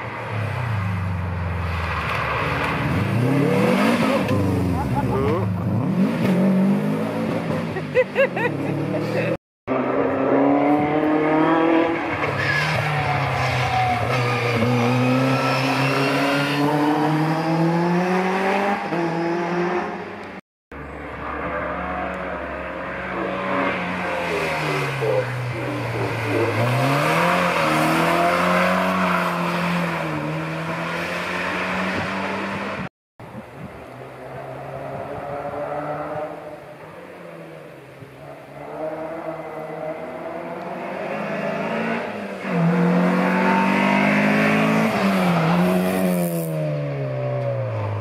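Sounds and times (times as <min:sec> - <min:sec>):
race car engines revving: 0:00.0 - 0:48.0.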